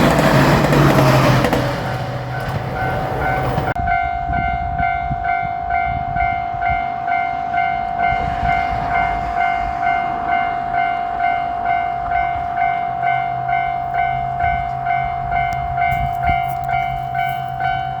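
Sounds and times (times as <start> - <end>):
railroad crossing warning bell: 0.0 - 18.0.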